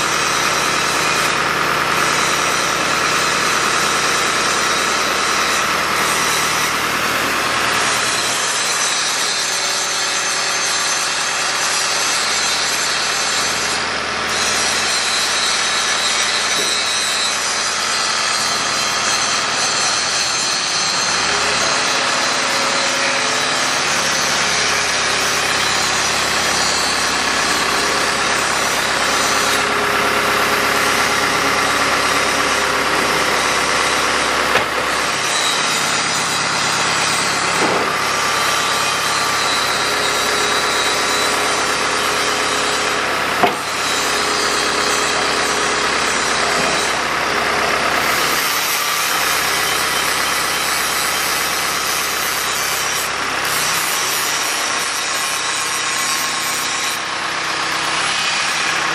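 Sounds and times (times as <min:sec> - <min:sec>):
crane engine and hoist running: 0:00.0 - 0:58.9.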